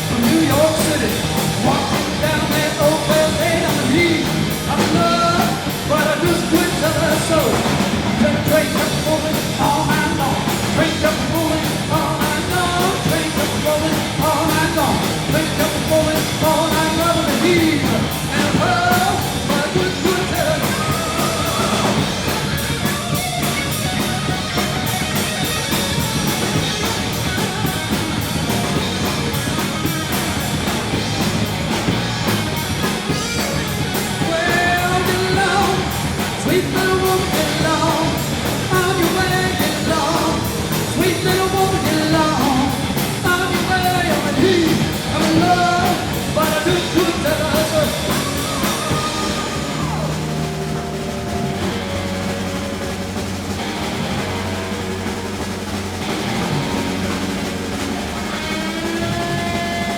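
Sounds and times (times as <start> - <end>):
bending lead guitar line: 0.0 - 59.9
live rock band playing: 0.0 - 59.9.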